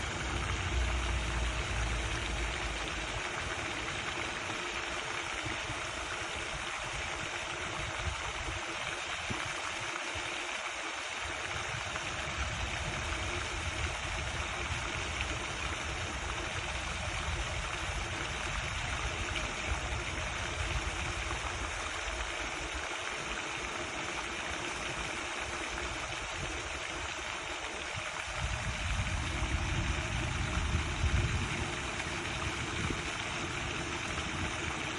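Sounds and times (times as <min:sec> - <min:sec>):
fountain spray splashing on water: 0:00.0 - 0:34.9.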